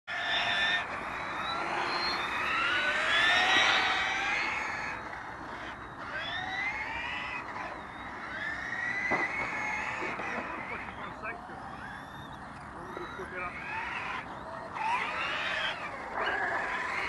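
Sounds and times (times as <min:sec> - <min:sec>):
model car motors whining: 0:00.1 - 0:17.0.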